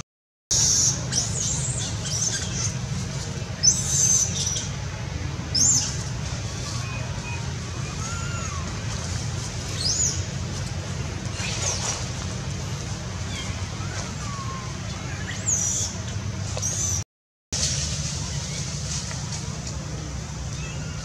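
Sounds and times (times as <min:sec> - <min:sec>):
steady low rumble: 0:00.5 - 0:17.0, 0:17.6 - 0:21.0.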